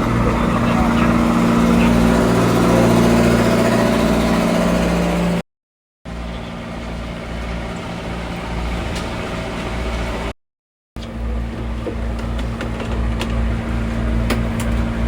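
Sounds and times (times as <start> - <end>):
engine running with low hum: 0.0 - 5.4, 6.1 - 10.3, 11.0 - 15.0.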